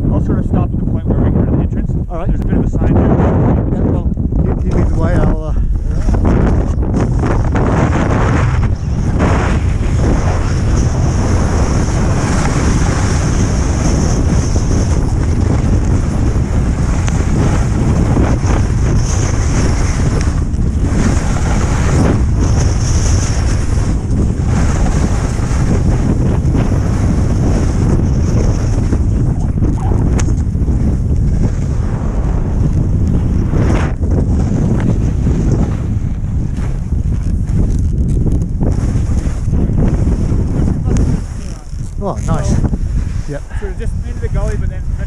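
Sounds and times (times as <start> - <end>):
wind buffeting microphone: 0.0 - 45.0
skis sliding over snow: 5.9 - 45.0.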